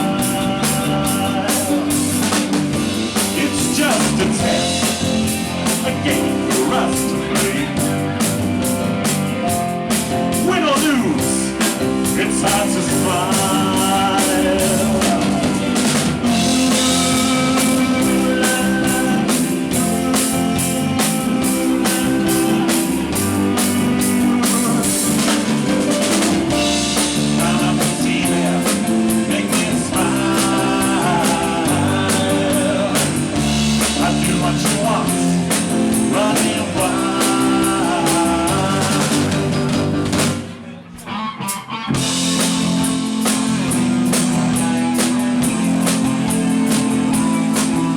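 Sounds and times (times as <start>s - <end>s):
drum kit beat on cymbals: 0.0s - 40.6s, 42.0s - 47.9s.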